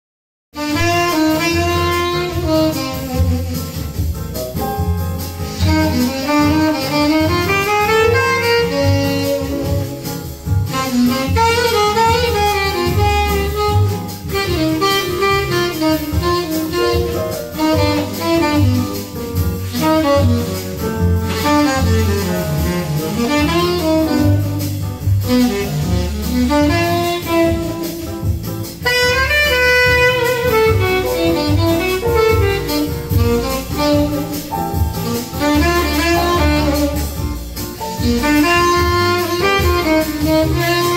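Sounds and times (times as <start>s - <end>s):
jazz with saxophone lead: 0.6s - 40.9s
strong bass line: 0.6s - 40.9s.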